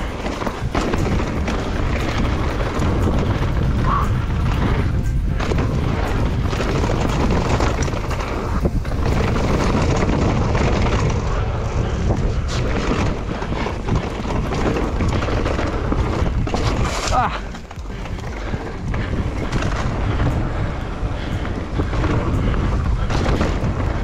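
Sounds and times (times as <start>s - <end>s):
mountain bike rumble and rattle: 0.0s - 24.0s
wind buffeting microphone: 0.0s - 24.0s.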